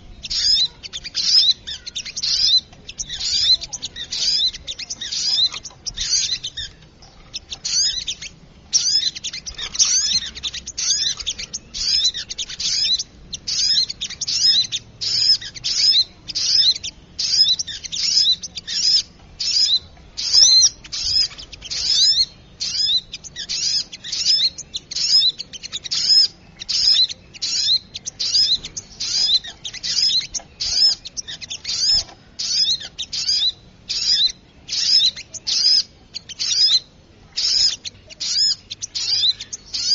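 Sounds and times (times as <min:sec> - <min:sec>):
rapid high bird chirps: 0:00.0 - 0:39.9.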